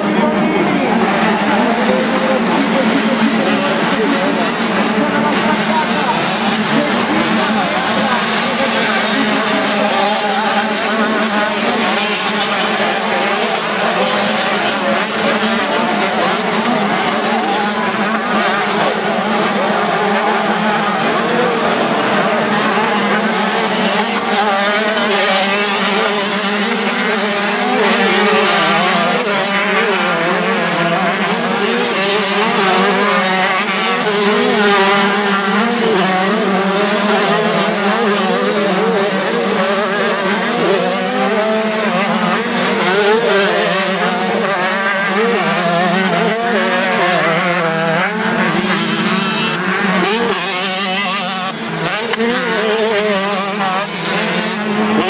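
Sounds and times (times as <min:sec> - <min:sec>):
motocross bikes racing past: 0:00.0 - 0:55.0.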